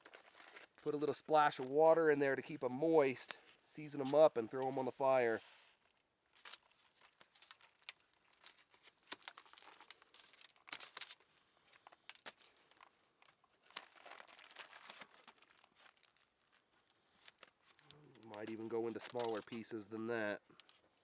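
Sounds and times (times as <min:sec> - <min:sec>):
aluminium foil crinkling: 0:00.0 - 0:01.8, 0:05.7 - 0:21.0.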